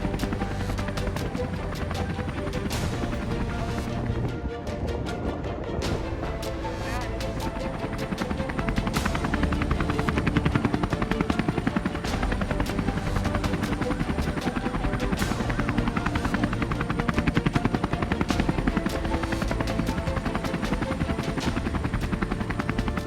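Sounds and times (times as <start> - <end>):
helicopter rotor chopping: 0.0 - 23.0.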